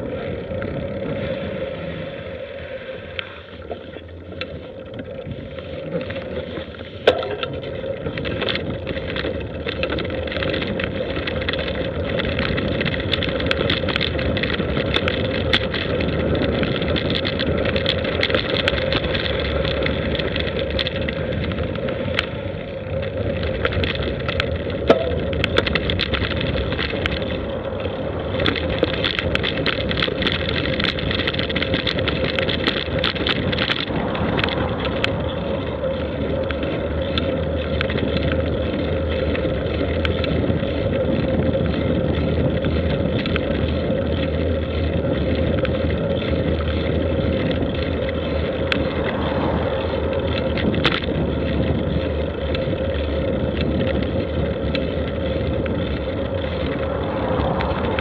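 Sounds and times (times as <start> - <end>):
constant hum: 0.0 - 58.0
wind noise on camera: 0.0 - 58.0
sharp rattling clicks: 6.0 - 58.0.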